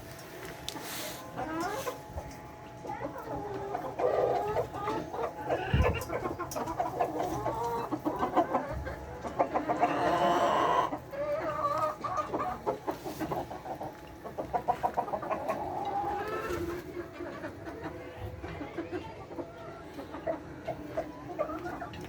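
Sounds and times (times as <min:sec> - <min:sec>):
hens clucking and calling: 0:00.0 - 0:22.0.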